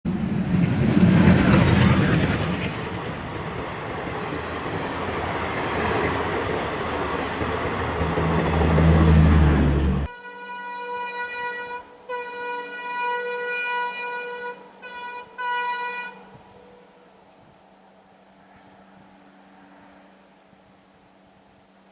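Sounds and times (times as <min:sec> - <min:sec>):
train rumble and rail noise: 0:00.1 - 0:10.1, 0:11.0 - 0:21.9
diesel locomotive engine humming: 0:00.1 - 0:21.3.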